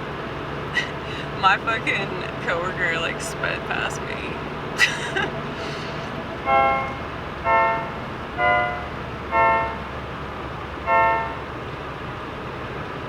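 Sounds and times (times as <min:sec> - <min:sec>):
moving car rumble: 0:00.0 - 0:13.0.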